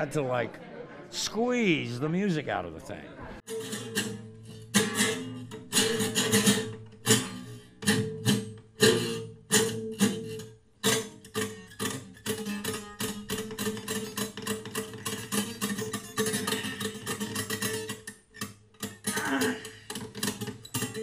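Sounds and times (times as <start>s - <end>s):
acoustic guitar strummed hard: 3.5s - 21.0s.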